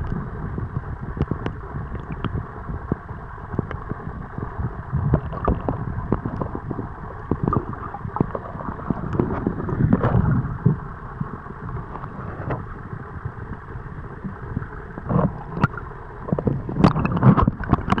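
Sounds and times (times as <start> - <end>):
underwater crackles and pops: 0.0 - 18.0
underwater water sloshing: 0.0 - 18.0.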